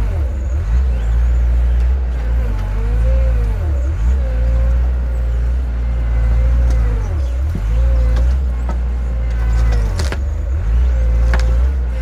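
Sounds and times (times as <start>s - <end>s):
heavy machine engine under load: 0.0s - 12.0s.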